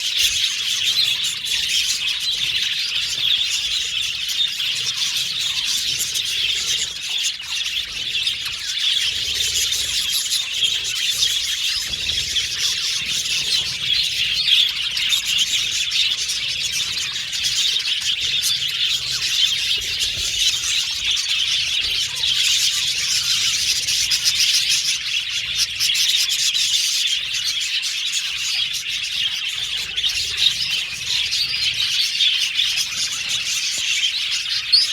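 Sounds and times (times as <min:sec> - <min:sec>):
budgerigars chirping and warbling: 0:00.0 - 0:34.9.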